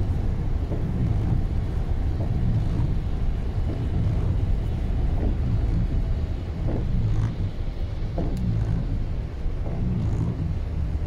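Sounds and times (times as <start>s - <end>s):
tyre and engine rumble: 0.0s - 11.0s
windscreen wipers sweeping: 0.0s - 11.0s.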